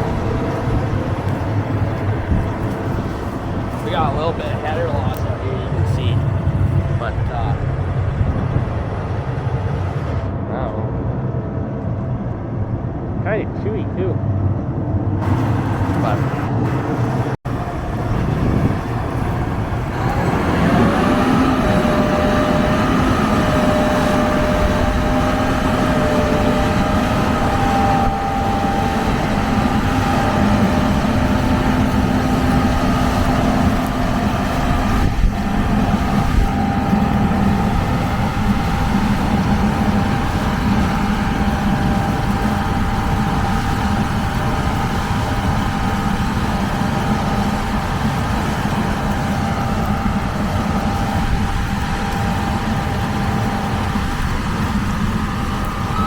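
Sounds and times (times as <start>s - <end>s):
combine harvester rumbling: 0.0s - 56.0s.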